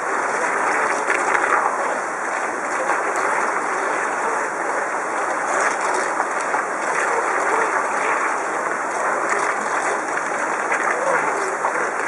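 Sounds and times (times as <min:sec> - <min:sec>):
boat propeller splashing: 0:00.0 - 0:12.0
water rushing over weir: 0:00.0 - 0:12.0.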